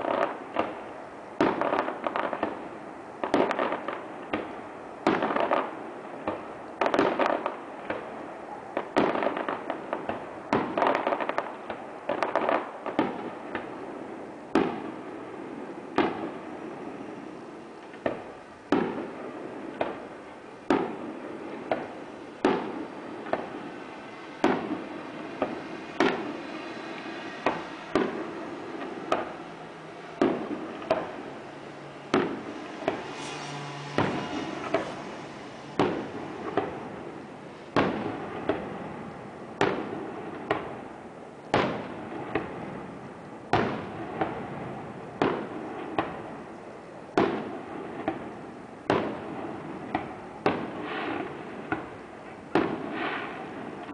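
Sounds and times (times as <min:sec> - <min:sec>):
firework bangs: 0:00.0 - 0:53.9.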